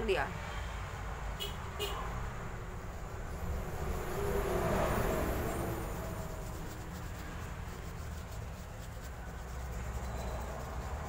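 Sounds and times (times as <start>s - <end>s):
low traffic rumble: 0.0s - 11.0s
vehicle passing: 0.0s - 11.0s.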